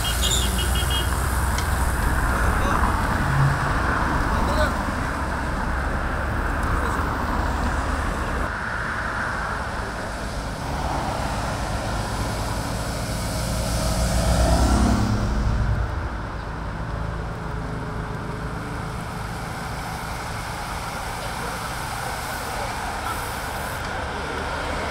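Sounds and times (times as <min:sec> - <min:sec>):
road traffic rumble: 0:00.0 - 0:24.9
vehicle passing close: 0:00.0 - 0:24.9.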